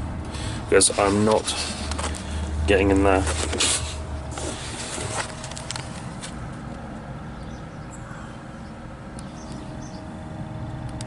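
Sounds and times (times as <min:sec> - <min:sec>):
fridge compressor humming: 0:00.0 - 0:11.0.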